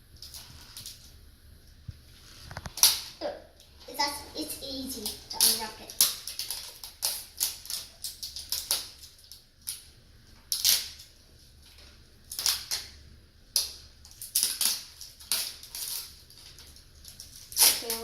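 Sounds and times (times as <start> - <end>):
wrapping crinkling and tearing: 0.2 - 1.2, 2.0 - 18.0.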